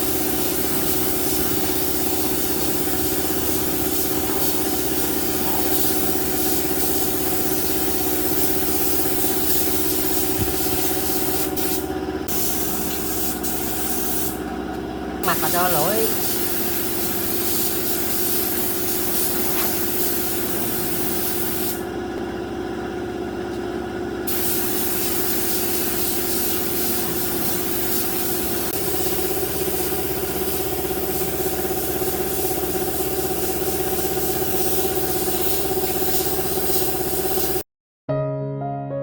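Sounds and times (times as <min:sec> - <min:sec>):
electric power tool running: 0:00.0 - 0:23.4, 0:24.2 - 0:37.6.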